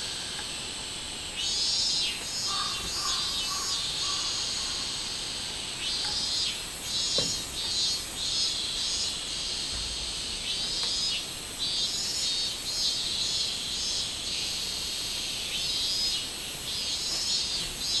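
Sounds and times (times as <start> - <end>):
cicada pulsing call: 0.0 - 18.0
insect buzz: 0.0 - 18.0.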